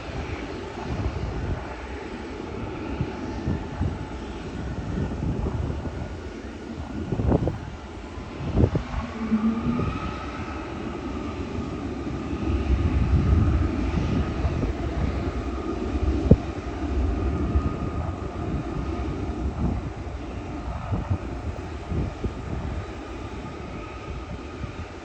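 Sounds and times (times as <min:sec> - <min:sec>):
high engine whine: 0:00.0 - 0:25.0
jet airliner passing overhead: 0:00.0 - 0:25.0
wind buffeting microphone: 0:00.0 - 0:25.0.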